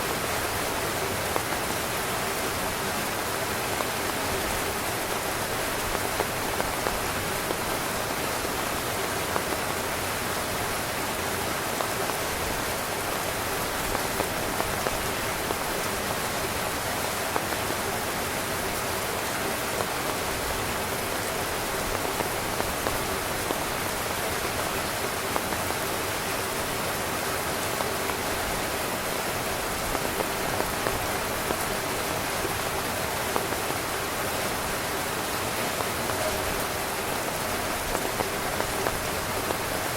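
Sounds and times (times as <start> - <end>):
rain on a tent: 0.0 - 39.9
raindrops pattering: 0.0 - 39.9.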